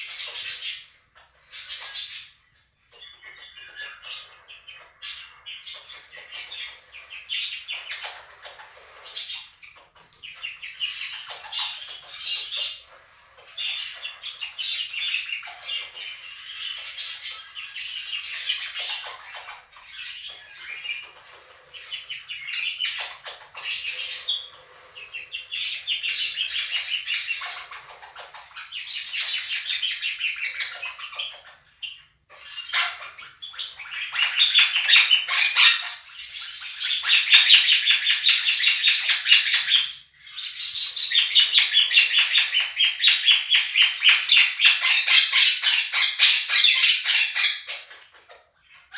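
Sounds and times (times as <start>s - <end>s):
budgerigars chattering: 0.0s - 48.9s
parakeets calling loudly: 0.0s - 48.9s.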